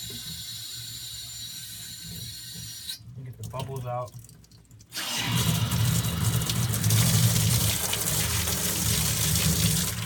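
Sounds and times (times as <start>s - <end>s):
tap water running into bathtub: 0.0s - 10.0s.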